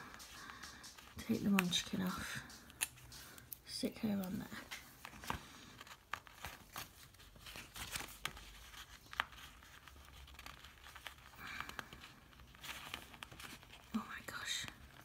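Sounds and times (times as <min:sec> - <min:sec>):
paper rustling and crinkling: 0:00.1 - 0:15.0.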